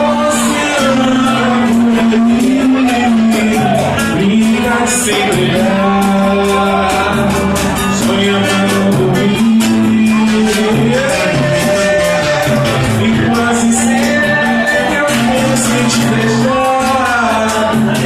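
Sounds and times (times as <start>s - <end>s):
percussion beat: 0.0s - 18.0s
vocal melody: 0.0s - 18.0s.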